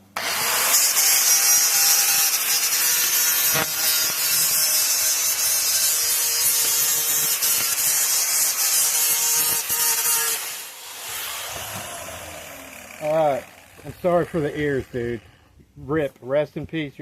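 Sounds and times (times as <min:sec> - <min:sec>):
angle grinder grinding metal: 0:00.1 - 0:15.8.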